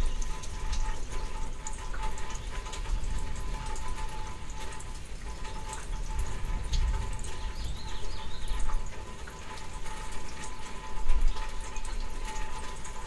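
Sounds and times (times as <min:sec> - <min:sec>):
rain falling on grass and trees: 0:00.0 - 0:13.0
raindrops ticking: 0:00.0 - 0:13.0.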